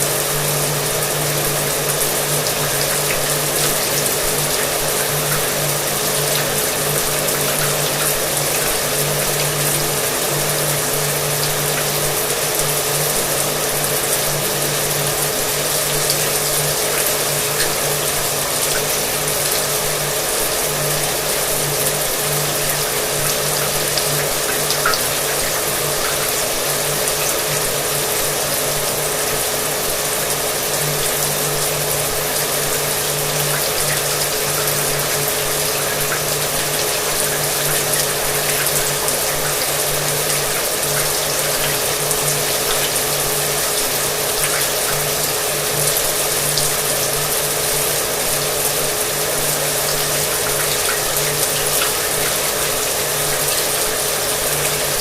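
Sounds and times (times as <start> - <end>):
shower water spraying: 0.0 - 55.0.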